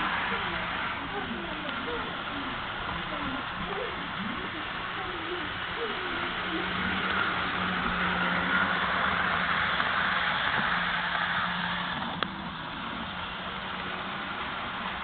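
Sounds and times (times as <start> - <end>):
model locomotive humming: 0.0 - 15.0.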